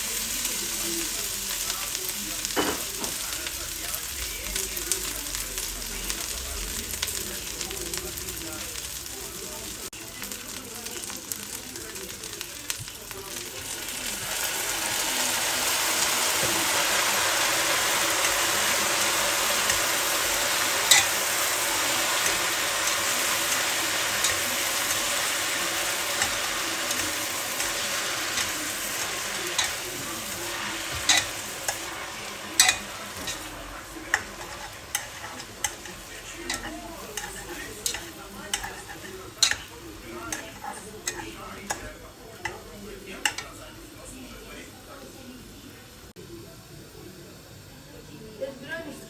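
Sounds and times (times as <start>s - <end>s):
food sizzling in hot oil: 0.0s - 49.0s.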